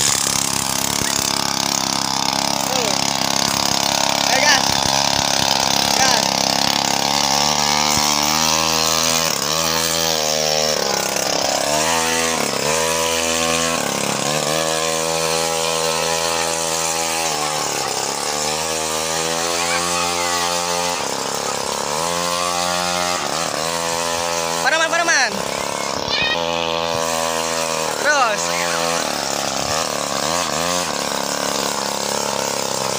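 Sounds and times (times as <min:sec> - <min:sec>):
small engine running under load: 0:00.0 - 0:32.9.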